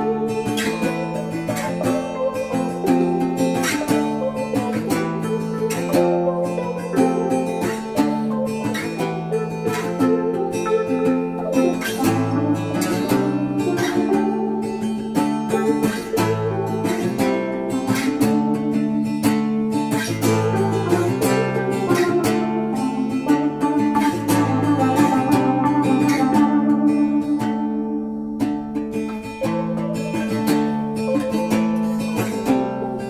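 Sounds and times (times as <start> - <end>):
picked acoustic guitar: 0.0 - 33.0
plucked strings: 0.0 - 33.0.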